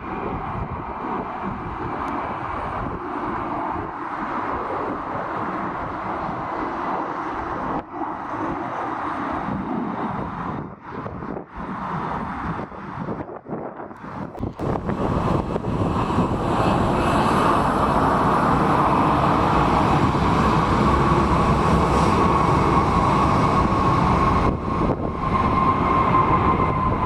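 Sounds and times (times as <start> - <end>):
jet engines at high power: 0.0 - 13.4, 14.0 - 27.0
wind buffeting microphone: 0.0 - 27.0.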